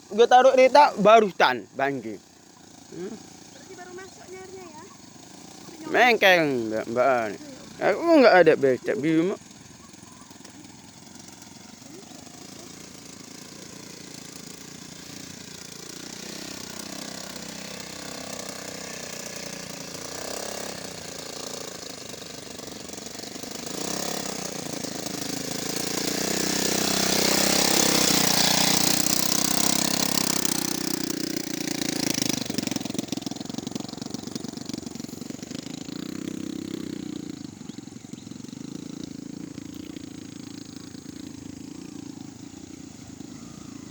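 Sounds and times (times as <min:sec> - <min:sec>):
brush cutter buzzing: 0:00.0 - 0:43.9.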